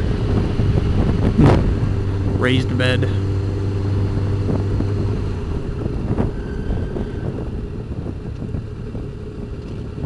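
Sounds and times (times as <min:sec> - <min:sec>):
motorcycle engine: 0:00.0 - 0:10.0
wind rushing over microphone: 0:00.0 - 0:10.0.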